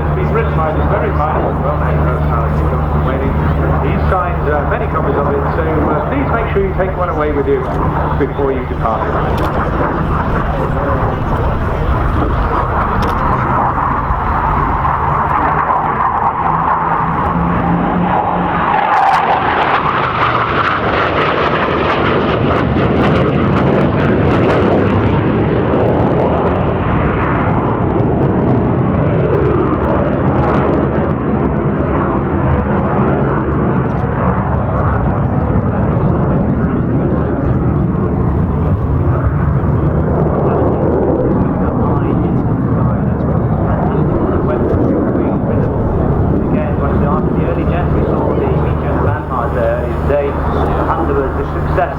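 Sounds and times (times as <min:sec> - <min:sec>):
jet engine roar flying past: 0:00.0 - 0:51.9.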